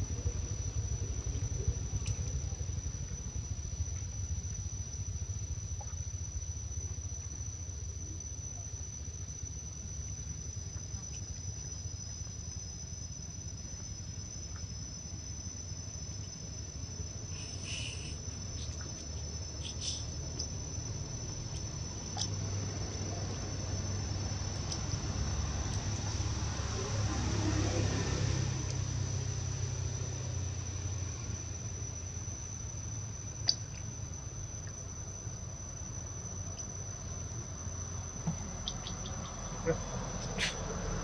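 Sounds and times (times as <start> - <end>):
insects droning high-pitched: 0.0 - 41.0.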